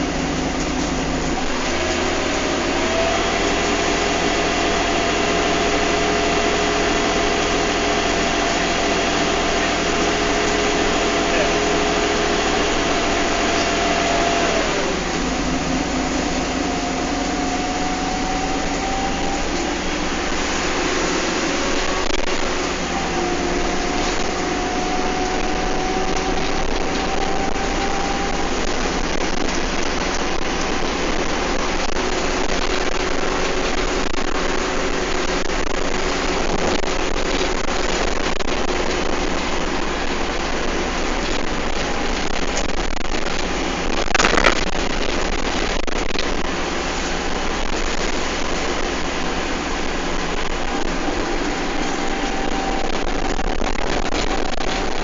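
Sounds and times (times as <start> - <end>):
bus engine and road rumble: 0.0 - 55.0
rising whine: 0.0 - 55.0.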